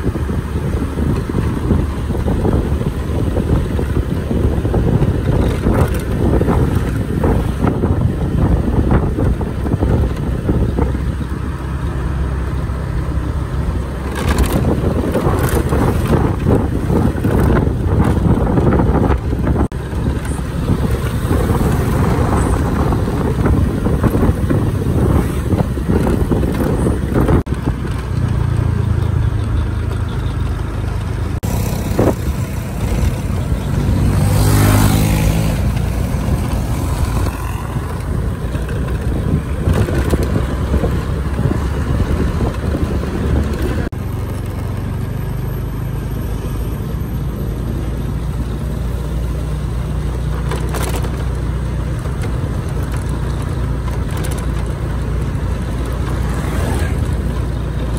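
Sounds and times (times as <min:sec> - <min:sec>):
vehicles passing: 0:00.0 - 0:57.9.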